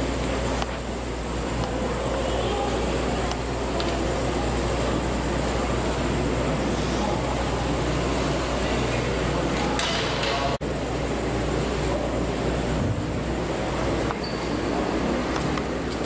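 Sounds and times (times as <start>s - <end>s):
constant low hum: 0.0s - 16.0s
crowd with indistinct voices: 0.0s - 16.0s.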